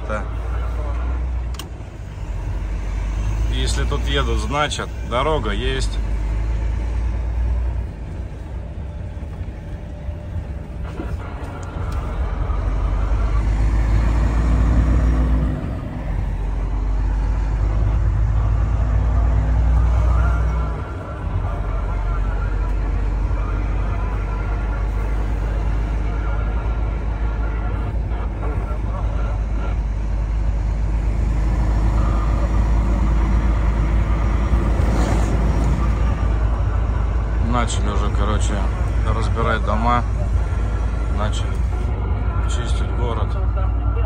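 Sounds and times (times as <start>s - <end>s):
road noise: 0.0s - 44.0s
truck diesel engine drone: 0.0s - 44.0s.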